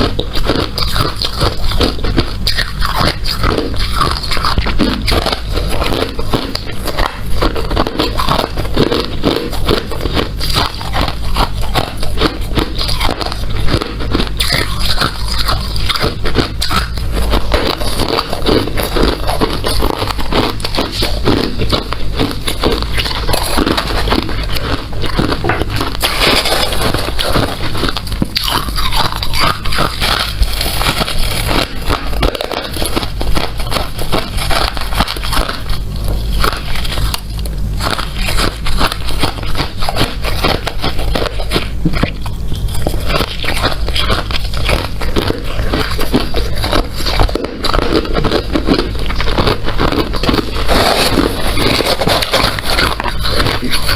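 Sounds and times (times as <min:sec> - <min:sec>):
ice being chewed: 0:00.0 - 0:53.9.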